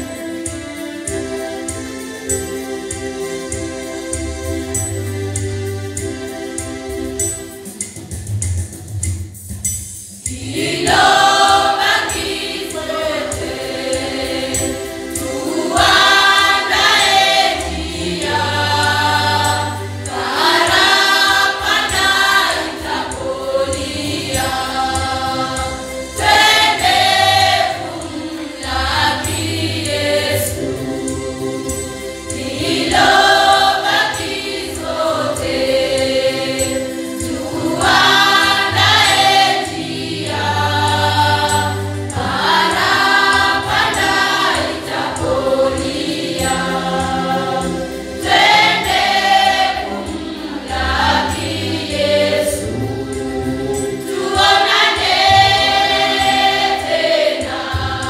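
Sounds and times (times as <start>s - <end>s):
choir singing a hymn: 0.0s - 7.6s, 10.2s - 58.0s.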